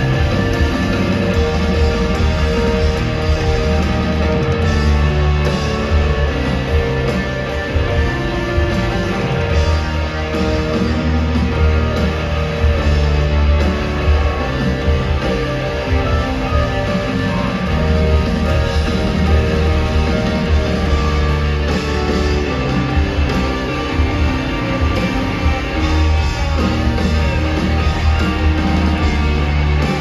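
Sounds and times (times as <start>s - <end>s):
bass guitar: 0.0s - 30.0s
drums: 0.0s - 30.0s
electric guitar: 0.0s - 30.0s.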